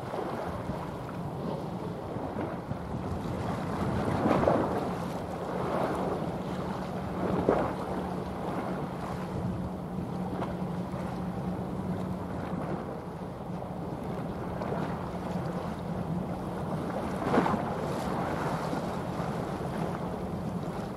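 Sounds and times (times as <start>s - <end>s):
ship engine drone: 0.0s - 20.9s
waves washing: 0.0s - 20.9s
wind on microphone: 0.0s - 20.9s.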